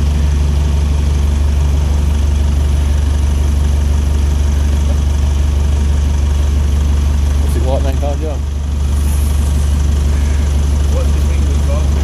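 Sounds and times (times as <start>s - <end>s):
forklift engine idling: 0.0s - 12.0s.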